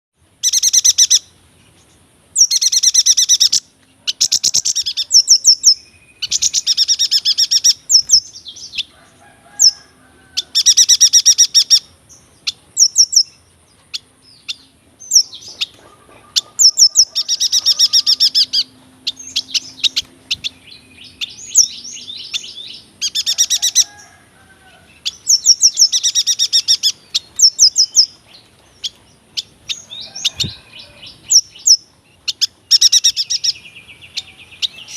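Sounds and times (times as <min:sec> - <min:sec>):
bird singing rapid high trills: 0:00.3 - 0:34.9
soft bird twittering: 0:00.4 - 0:34.9.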